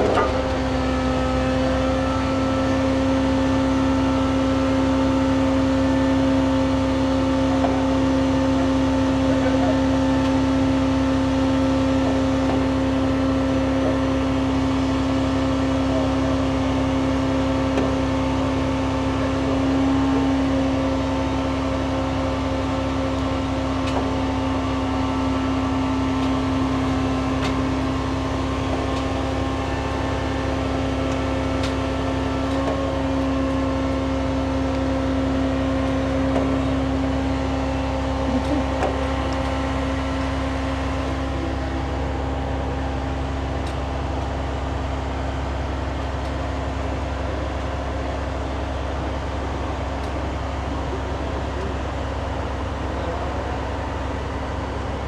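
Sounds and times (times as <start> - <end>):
fire truck engine and pump hum: 0.0 - 55.0
steady whine: 0.0 - 55.0.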